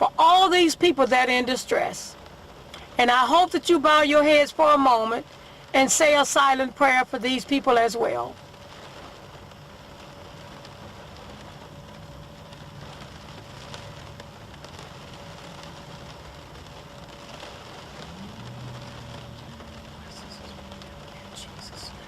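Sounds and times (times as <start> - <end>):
light rain on a car: 0.0 - 22.0
low steady hum: 0.0 - 22.0.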